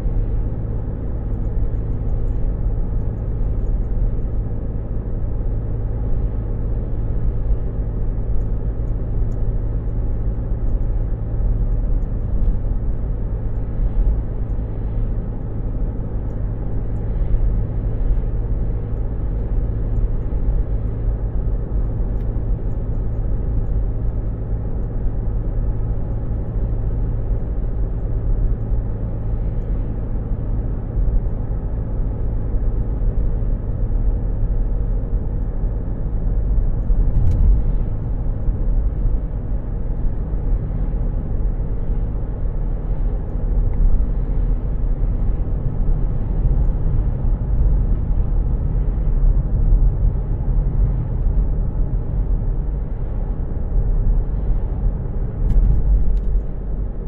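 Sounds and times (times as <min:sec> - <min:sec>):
car engine rumbling: 0:00.0 - 0:57.0.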